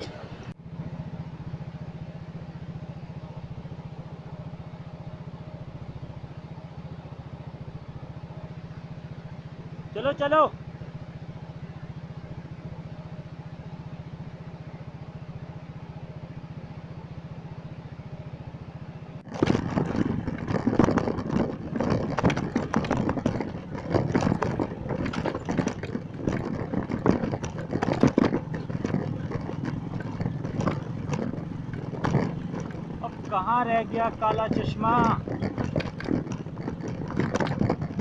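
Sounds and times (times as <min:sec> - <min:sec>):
motorcycle engine running: 0:00.0 - 0:38.0
motorcycle rattling on rough track: 0:00.0 - 0:38.0.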